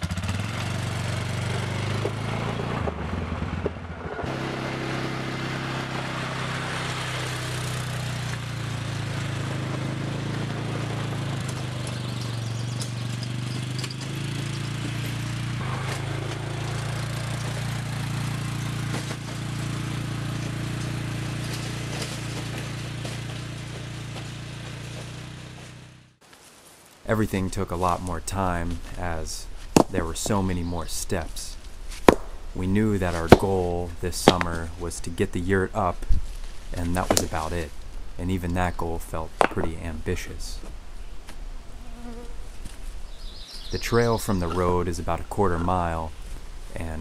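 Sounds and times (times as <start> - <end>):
atv engine running: 0.0 - 26.2, 27.1 - 47.0.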